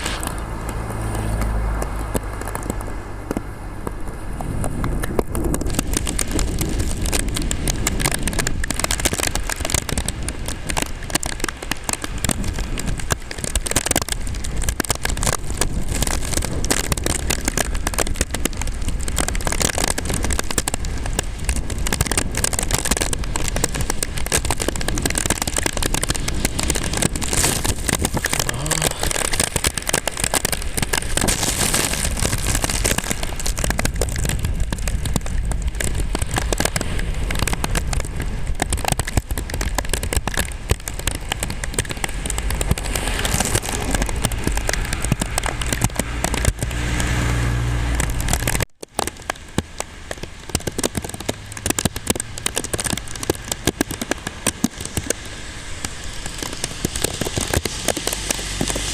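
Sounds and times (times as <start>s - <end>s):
heavy rain pattering: 0.0s - 58.9s
wind buffeting microphone: 1.8s - 58.9s.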